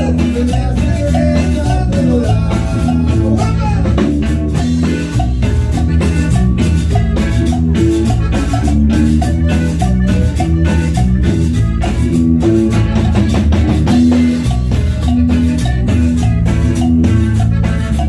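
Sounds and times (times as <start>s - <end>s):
band playing dance tune: 0.0s - 18.0s
steady drum beat: 0.0s - 18.0s.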